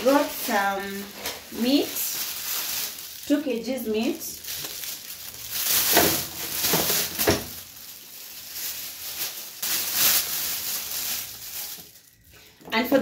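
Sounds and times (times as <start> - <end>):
plastic bag crinkling and rustling: 0.0 - 13.0.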